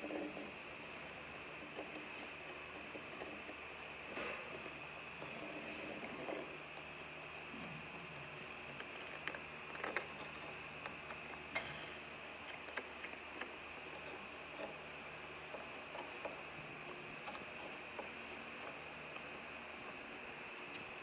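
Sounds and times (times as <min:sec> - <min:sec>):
pencil scratching on textured wall: 0:00.0 - 0:21.0.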